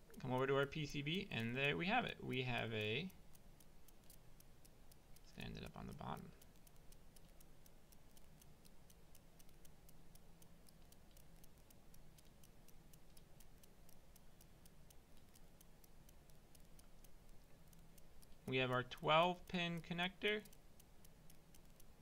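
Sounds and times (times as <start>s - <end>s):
fast faint ticking: 0.0s - 22.0s
low steady hum: 0.0s - 22.0s.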